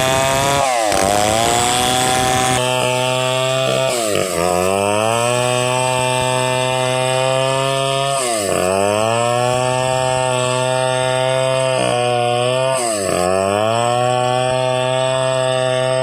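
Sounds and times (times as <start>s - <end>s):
chainsaw sawing wood: 0.0s - 16.0s.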